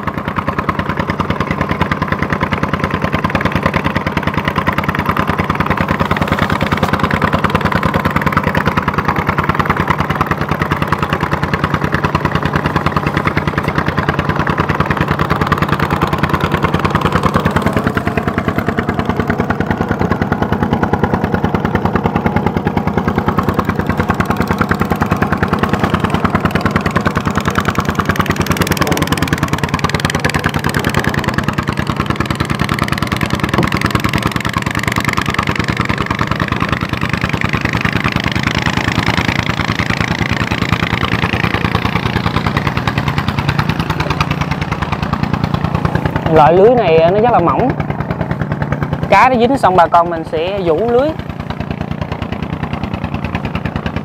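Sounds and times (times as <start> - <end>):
boat engine chugging: 0.0 - 54.0.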